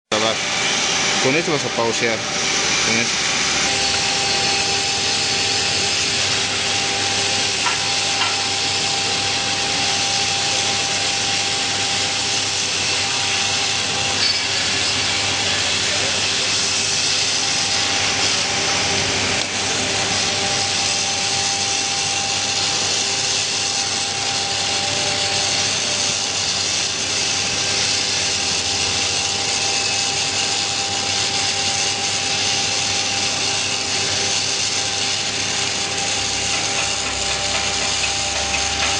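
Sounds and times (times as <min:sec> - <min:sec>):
steady hum: 0:00.1 - 0:38.9
welding arc crackling: 0:00.1 - 0:38.9.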